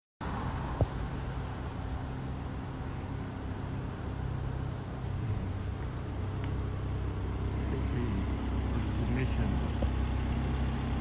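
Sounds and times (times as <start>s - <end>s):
car engine humming: 0.2s - 11.0s.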